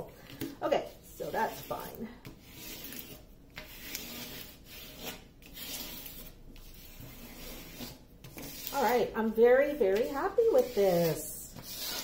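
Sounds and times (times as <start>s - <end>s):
stick rubbing plastic film: 1.2s - 9.1s, 9.9s - 12.0s.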